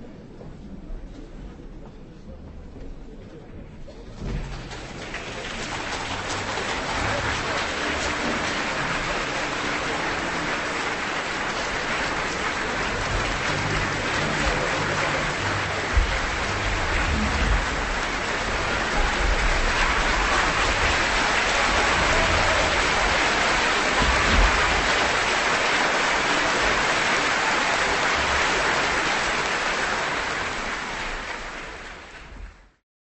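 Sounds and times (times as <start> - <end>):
audience applauding: 4.1 - 32.8.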